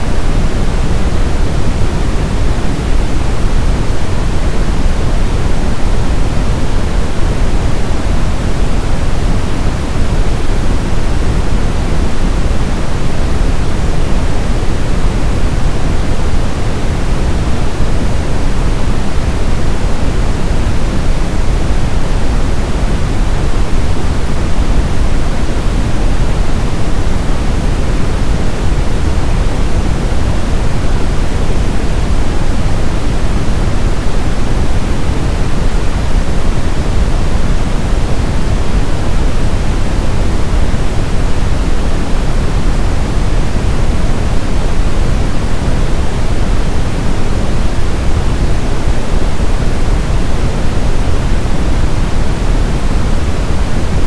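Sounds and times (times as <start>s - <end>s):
brown noise hiss: 0.0s - 54.0s.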